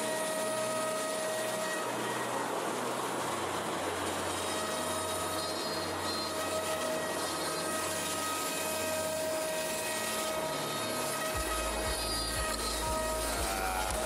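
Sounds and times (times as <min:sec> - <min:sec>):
router spindle whine: 0:00.0 - 0:14.0
rushing cutting and extraction noise: 0:00.0 - 0:14.0.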